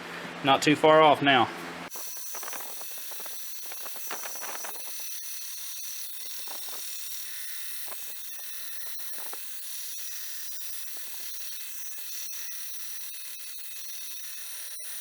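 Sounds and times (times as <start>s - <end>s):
grinder whining: 1.9s - 15.0s.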